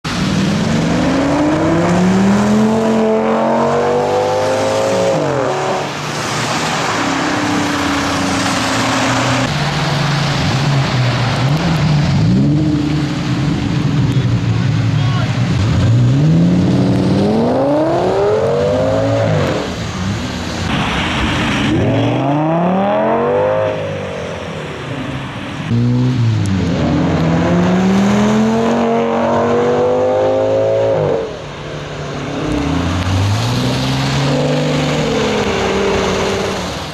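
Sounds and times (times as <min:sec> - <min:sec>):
car engine accelerating hard: 0:00.1 - 0:36.9.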